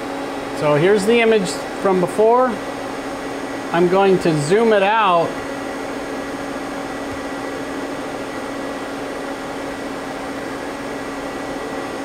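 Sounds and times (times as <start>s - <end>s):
lathe humming at idle: 0.0s - 12.0s.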